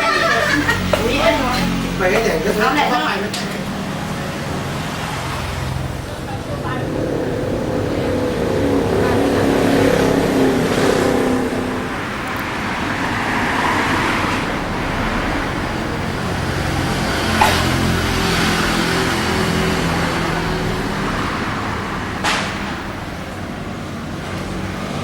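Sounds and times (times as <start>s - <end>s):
engine running: 0.0s - 25.0s
street traffic: 0.0s - 25.0s.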